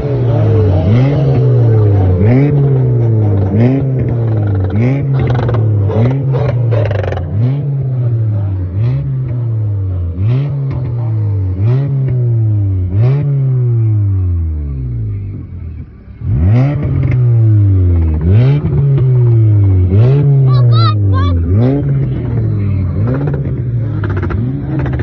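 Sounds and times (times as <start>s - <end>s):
car engine revving: 0.0s - 25.0s
exhaust crackles: 0.0s - 25.0s.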